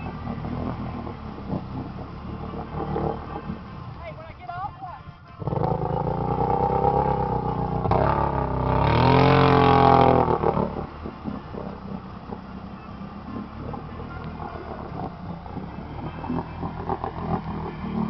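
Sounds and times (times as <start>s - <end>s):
atv engine revving: 0.0s - 4.4s, 5.3s - 18.0s.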